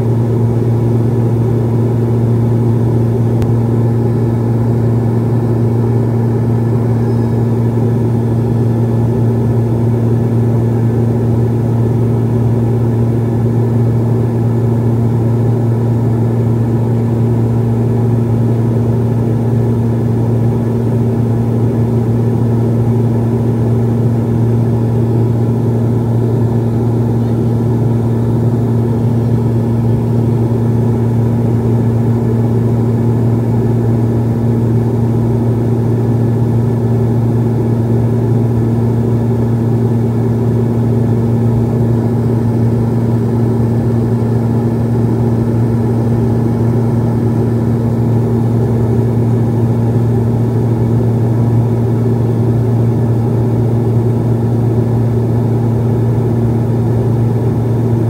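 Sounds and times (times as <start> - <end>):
turboprop engine drone in cabin: 0.0 - 58.0.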